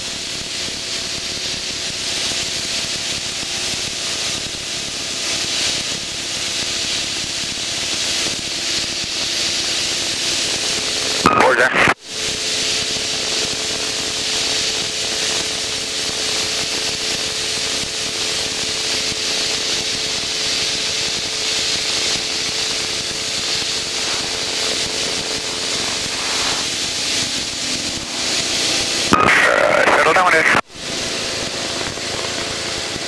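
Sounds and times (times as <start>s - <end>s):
aircraft engine and airflow hiss: 0.0s - 33.0s.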